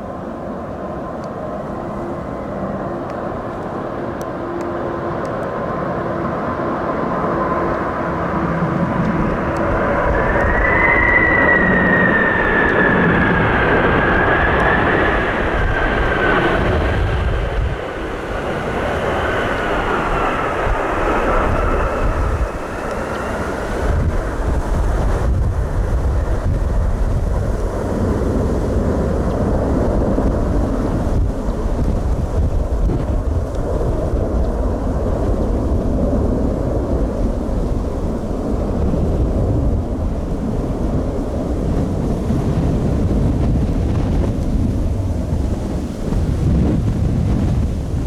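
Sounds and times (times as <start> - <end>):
storm wind buffeting microphone: 0.0 - 48.0.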